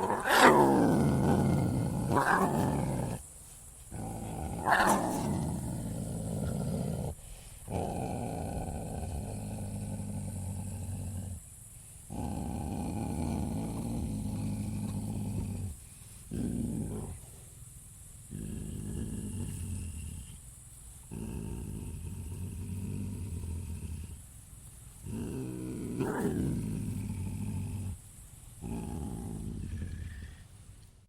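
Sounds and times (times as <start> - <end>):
large animal growling low: 0.0 - 3.3, 3.9 - 11.5, 12.1 - 17.4, 18.3 - 20.4, 21.1 - 24.2, 25.0 - 28.0, 28.6 - 30.5.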